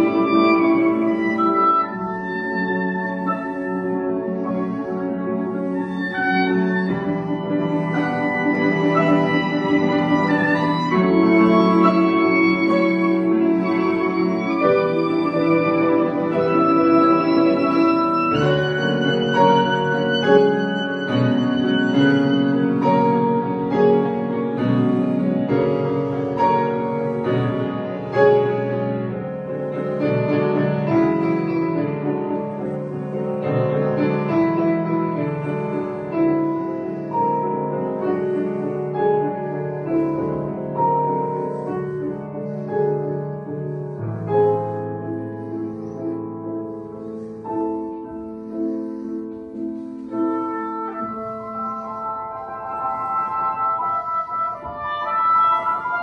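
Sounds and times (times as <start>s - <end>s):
clarinet: 0.0s - 56.0s
piano chords: 0.0s - 56.0s.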